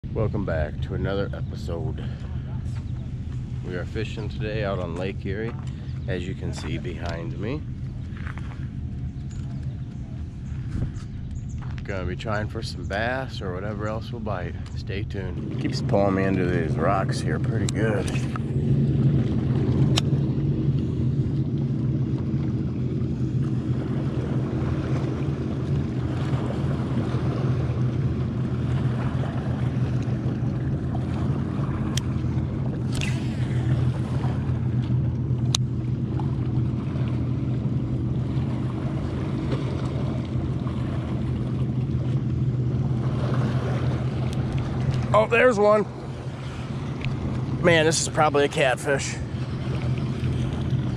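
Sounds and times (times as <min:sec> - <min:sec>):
boat motor humming: 0:00.0 - 0:50.9
water and wind noise: 0:00.0 - 0:50.9.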